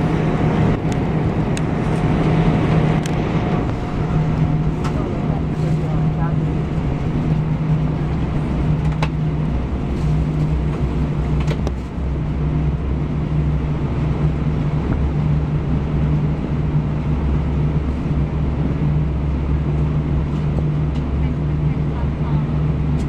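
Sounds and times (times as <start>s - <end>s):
airliner cabin drone: 0.0s - 23.0s.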